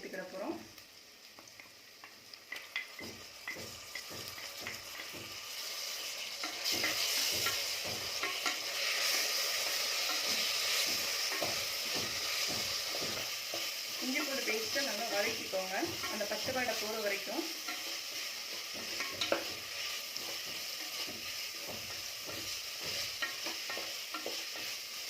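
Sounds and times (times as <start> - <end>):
paste sizzling in a pot: 0.0 - 25.0
spoon tapping and scraping a pot: 1.5 - 25.0.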